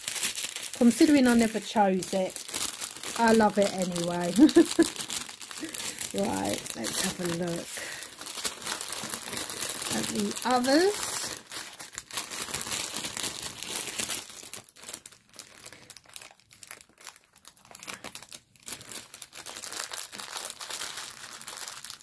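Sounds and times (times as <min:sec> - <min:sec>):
plastic wrapping crinkling: 0:00.0 - 0:22.0.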